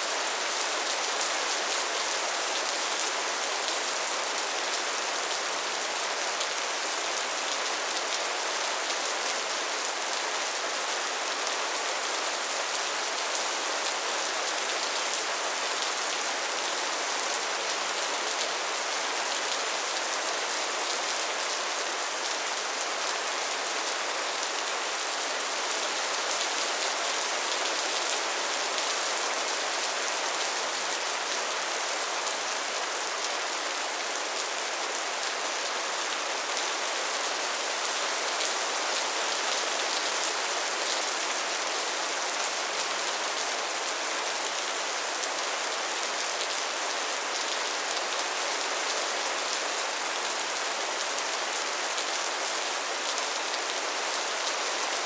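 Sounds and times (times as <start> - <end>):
gentle rain patter: 0.0 - 55.0.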